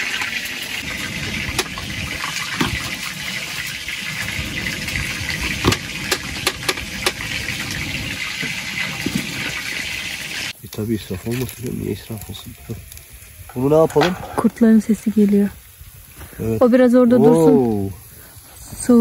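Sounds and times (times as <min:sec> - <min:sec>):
oil popping and crackling: 0:00.0 - 0:16.3
food sizzling in hot oil: 0:00.0 - 0:18.2.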